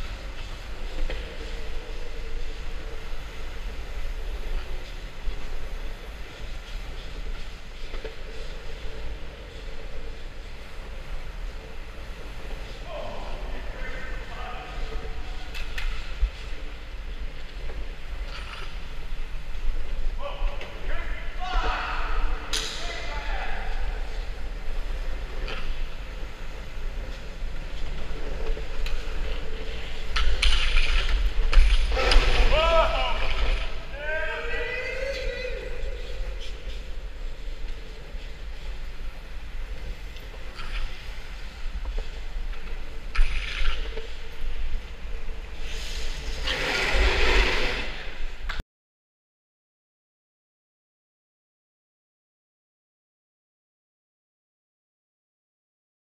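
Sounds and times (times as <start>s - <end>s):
skateboard wheels rolling on concrete: 0.0s - 48.6s.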